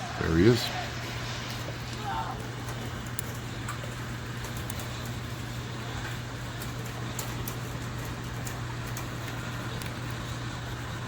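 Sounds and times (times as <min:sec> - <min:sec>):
constant low hum: 0:00.0 - 0:11.0
street traffic: 0:00.0 - 0:11.0.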